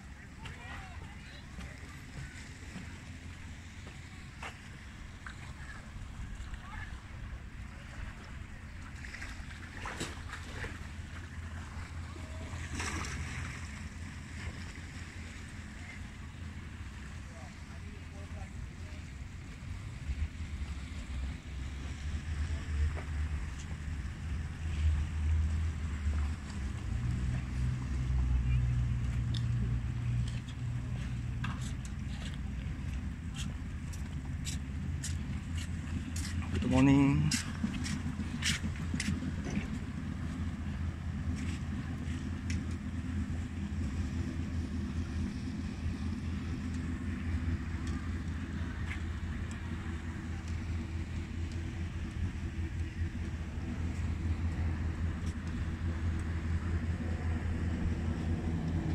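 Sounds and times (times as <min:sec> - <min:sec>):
faint hiss of open water: 0:00.0 - 0:58.9
motorboat engine rumbling: 0:00.0 - 0:58.9.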